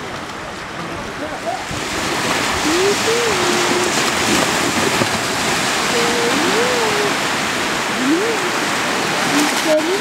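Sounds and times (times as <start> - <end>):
water rushing past boat: 0.0 - 10.0
wind noise: 0.0 - 10.0.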